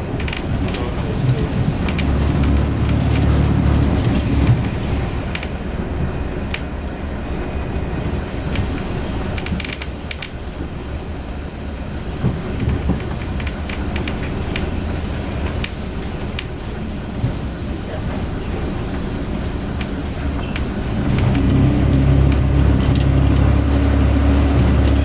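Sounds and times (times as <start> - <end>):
wheels clicking over rail joints: 0.0 - 7.4, 8.4 - 10.7, 12.0 - 25.0
train engine drone: 0.0 - 25.0.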